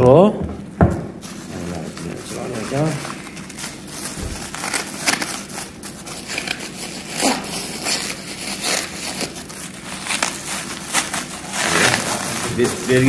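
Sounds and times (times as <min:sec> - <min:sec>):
bubble wrap crinkling: 0:01.2 - 0:13.0.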